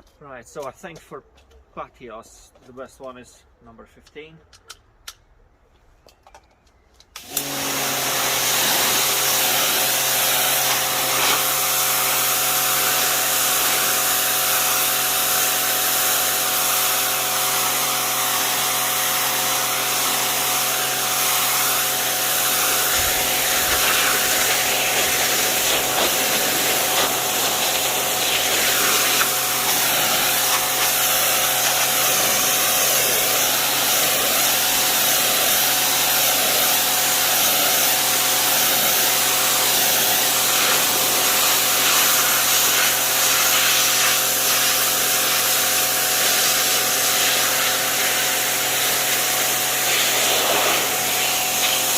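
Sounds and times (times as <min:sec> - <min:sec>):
electric motor hum: 0:07.2 - 0:51.9
pressure washer water jet hiss: 0:07.2 - 0:51.9.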